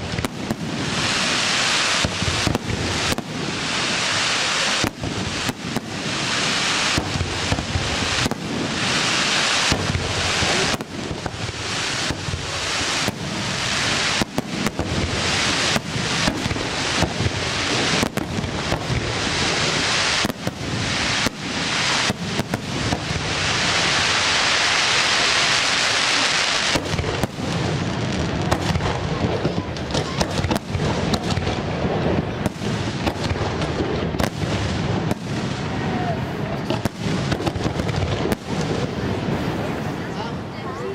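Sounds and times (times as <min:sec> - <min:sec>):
firework hiss: 0:00.0 - 0:40.9.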